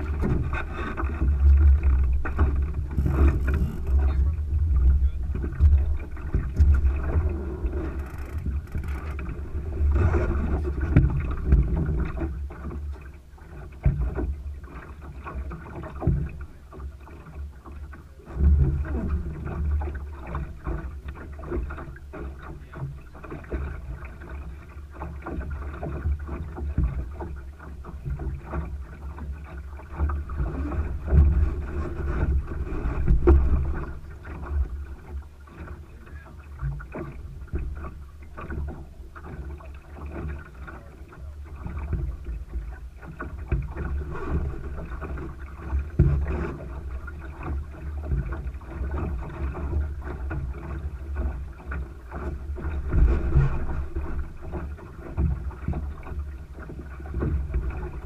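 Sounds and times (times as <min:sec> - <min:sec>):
knocks from hull and rigging: 0:00.0 - 0:58.0
wind and water noise: 0:00.0 - 0:58.0.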